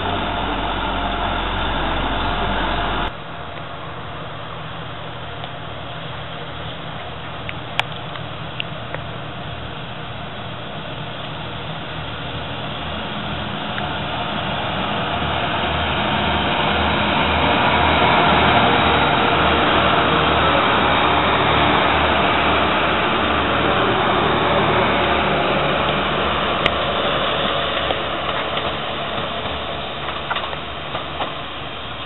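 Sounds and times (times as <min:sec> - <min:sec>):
diesel train passing: 0:00.0 - 0:32.0.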